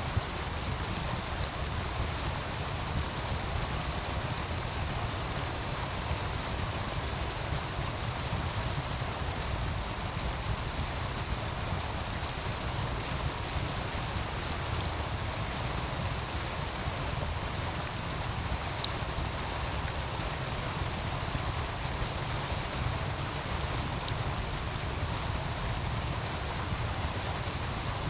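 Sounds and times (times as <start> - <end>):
wood fire crackling: 0.0 - 28.0
fire popping: 0.1 - 27.8.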